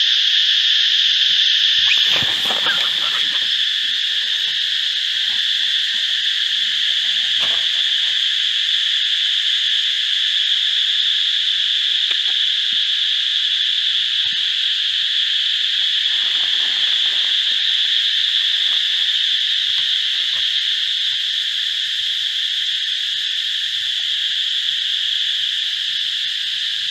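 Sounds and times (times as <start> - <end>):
insect chorus buzzing: 0.0 - 26.9.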